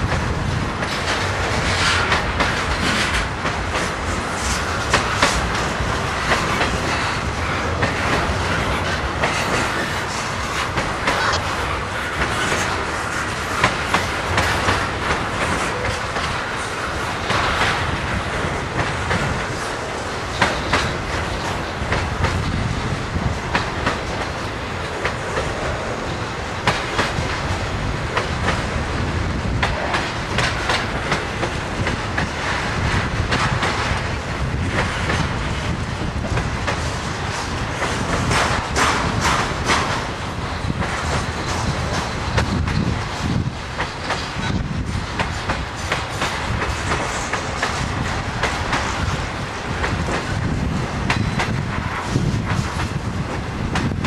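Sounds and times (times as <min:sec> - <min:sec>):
freight train rumble: 0:00.0 - 0:54.0
train wheels clacking on rail joints: 0:00.0 - 0:54.0.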